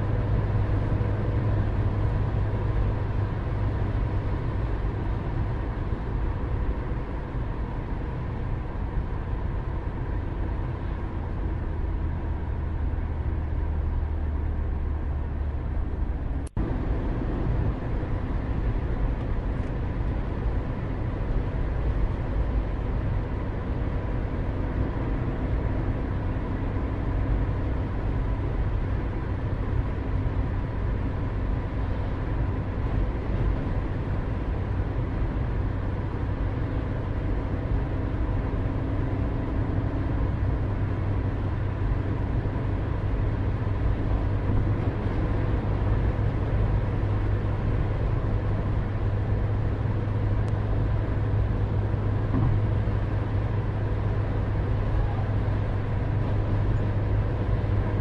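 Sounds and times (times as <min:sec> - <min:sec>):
distant traffic rumble: 0:00.0 - 0:58.0.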